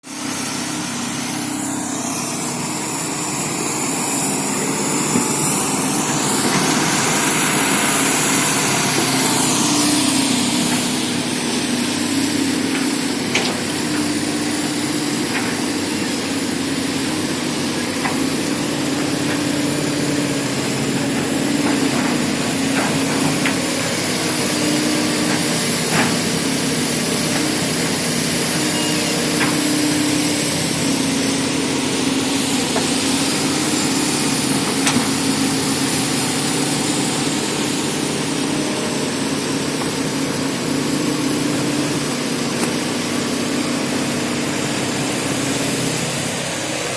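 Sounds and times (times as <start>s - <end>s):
excavator diesel engines running: 0.1s - 46.9s
high whine: 0.2s - 46.9s.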